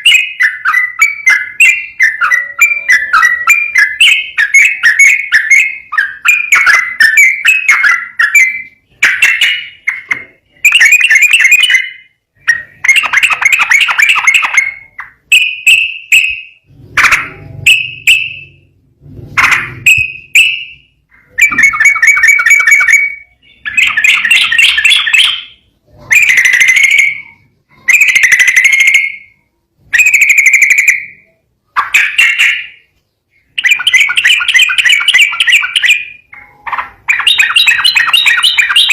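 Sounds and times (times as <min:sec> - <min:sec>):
bulbul singing whistled phrases: 0:00.0 - 0:18.7, 0:19.5 - 0:38.9.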